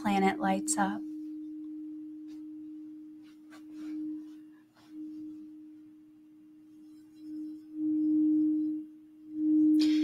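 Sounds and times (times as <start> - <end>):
crystal singing bowl ringing: 0.0 - 10.0.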